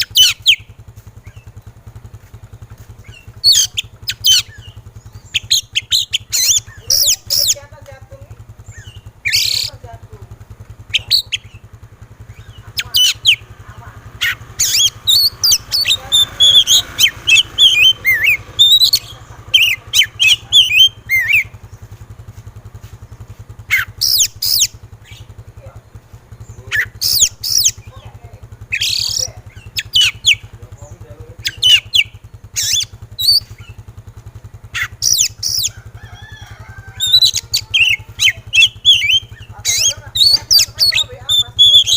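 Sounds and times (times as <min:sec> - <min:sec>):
songbird whistling and warbling: 0:00.0 - 0:01.5, 0:03.0 - 0:07.7, 0:08.6 - 0:09.8, 0:10.8 - 0:11.7, 0:12.3 - 0:21.8, 0:23.7 - 0:33.8, 0:34.7 - 0:41.9
steady low hum: 0:00.0 - 0:41.9.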